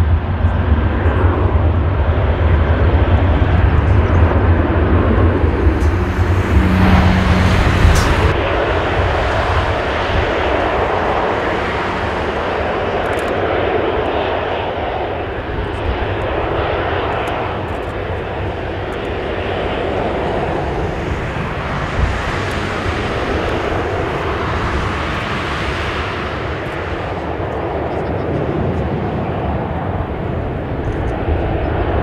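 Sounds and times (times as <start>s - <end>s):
jet engines rushing and rumbling: 0.0s - 32.0s.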